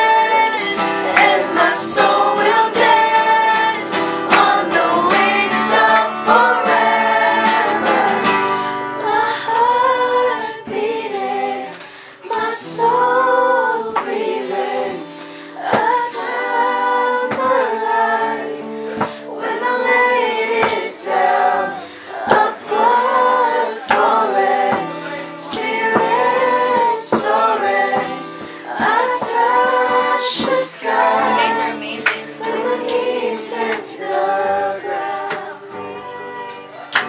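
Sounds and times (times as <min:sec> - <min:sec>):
acoustic guitar strumming: 0:00.0 - 0:37.0
group singing: 0:00.0 - 0:37.0.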